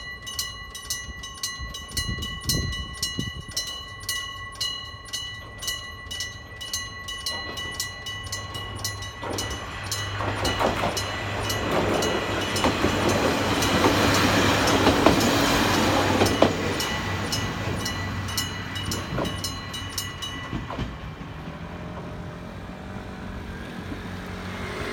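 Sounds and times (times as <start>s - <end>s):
electric crossing bell ringing: 0.0s - 21.9s
train rumble: 0.0s - 24.9s.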